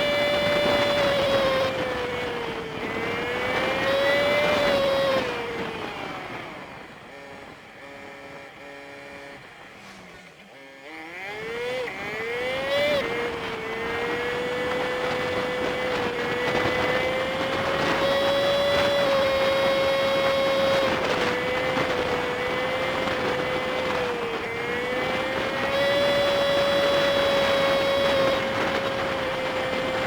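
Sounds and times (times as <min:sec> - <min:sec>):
small motorcycle engine pulling away: 0:00.0 - 0:30.0.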